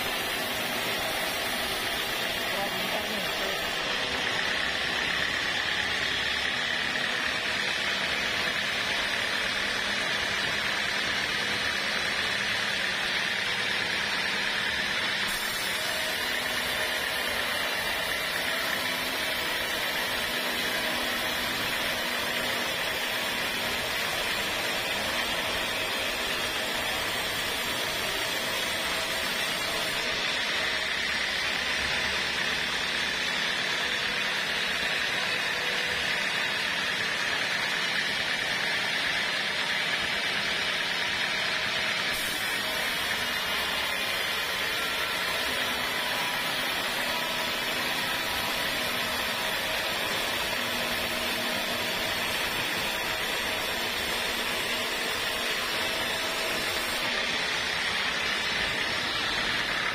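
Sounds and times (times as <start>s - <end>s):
bandsaw cutting log: 0.0s - 59.9s.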